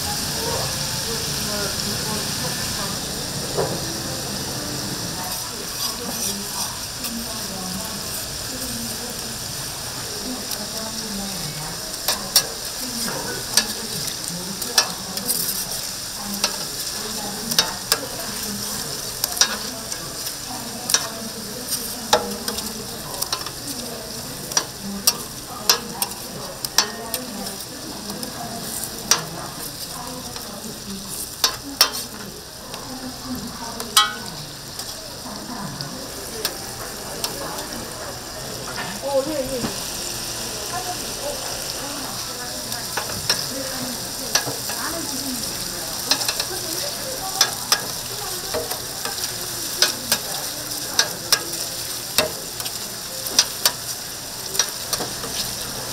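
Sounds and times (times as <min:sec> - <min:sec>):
patties sizzling on hot surface: 0:00.0 - 0:55.9.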